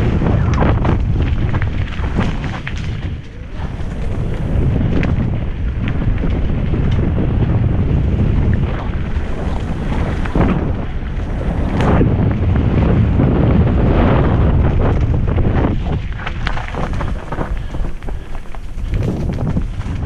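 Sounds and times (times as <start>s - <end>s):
bike knocks and rattles: 0.0s - 20.0s
tyre rumble on dirt: 0.0s - 20.0s
wind buffeting microphone: 0.0s - 20.0s.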